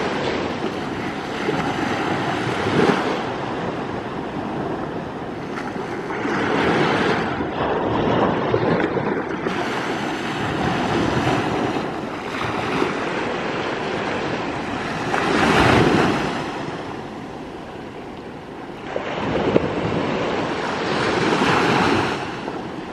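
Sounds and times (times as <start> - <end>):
small waves breaking on beach: 0.0 - 22.9.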